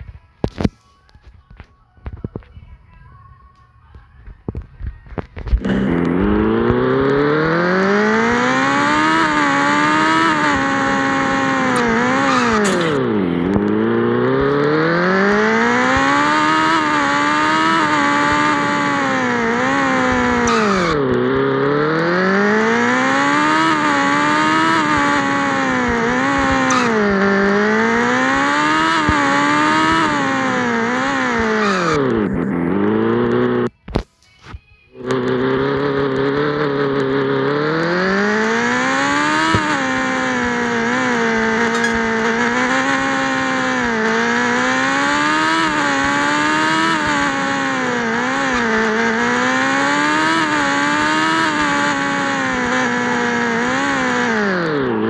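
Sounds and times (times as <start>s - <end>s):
loud motorcycle engine revving: 5.5s - 33.7s, 35.0s - 55.0s.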